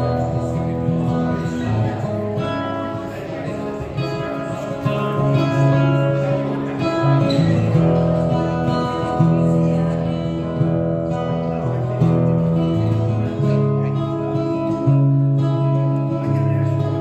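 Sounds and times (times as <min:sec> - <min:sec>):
acoustic guitar through pa: 0:00.0 - 0:17.0.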